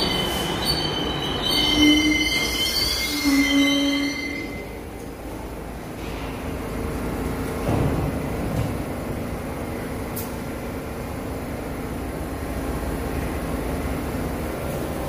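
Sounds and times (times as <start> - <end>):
subway train rumble and hum: 0.0 - 15.0.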